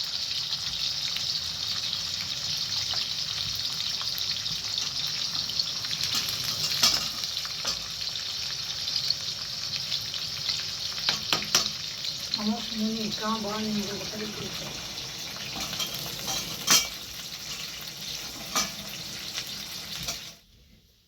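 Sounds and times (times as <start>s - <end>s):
food sizzling in frying: 0.0s - 21.0s.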